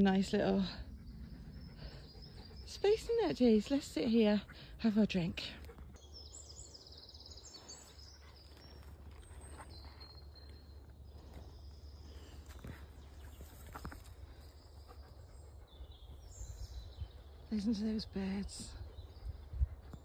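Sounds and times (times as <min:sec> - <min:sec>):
faint birdsong: 0:00.0 - 0:20.0.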